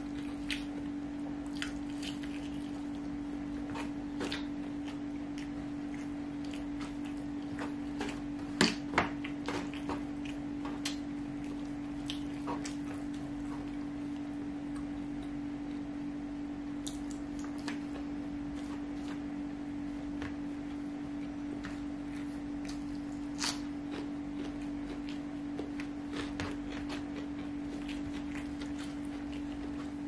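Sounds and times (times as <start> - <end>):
person chewing and lip smacking: 0.0 - 15.9, 16.8 - 19.2, 21.6 - 30.0.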